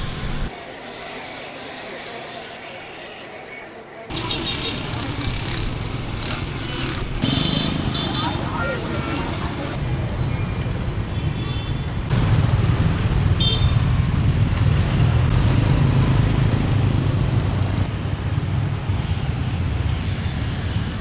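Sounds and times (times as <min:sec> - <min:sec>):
traffic rumbling past: 0:00.0 - 0:03.0, 0:04.1 - 0:11.1, 0:11.9 - 0:21.0.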